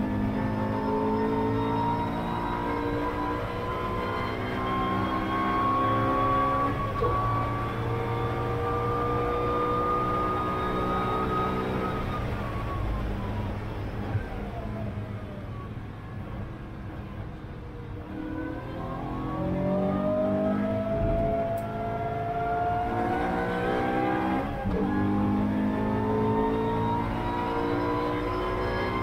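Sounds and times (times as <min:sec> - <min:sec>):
car engine accelerating: 0:00.0 - 0:15.7, 0:17.8 - 0:29.0.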